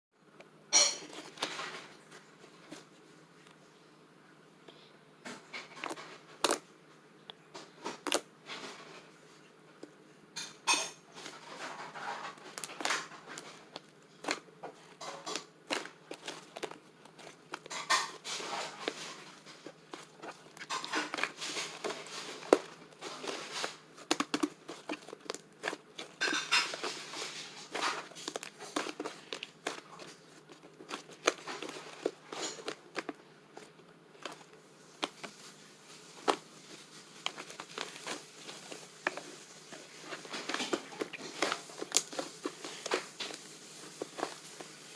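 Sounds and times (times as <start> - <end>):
slime squishing with sticky crackles: 5.3 - 44.9.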